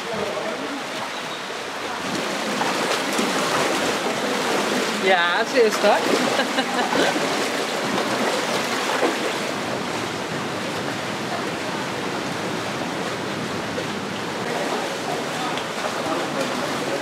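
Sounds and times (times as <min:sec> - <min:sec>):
stream water flowing over rocks: 0:00.0 - 0:17.0.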